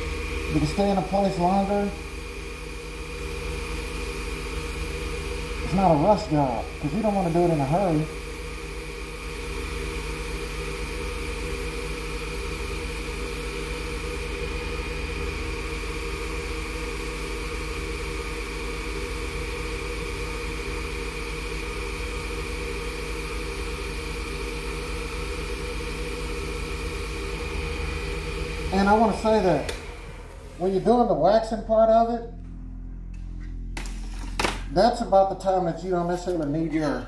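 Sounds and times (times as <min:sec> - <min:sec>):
wood lathe motor humming: 0:00.0 - 0:37.0.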